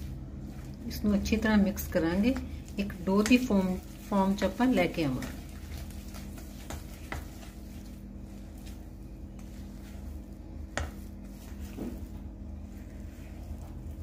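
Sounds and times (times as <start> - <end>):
spatula stirring cookie dough: 0.0 - 14.0.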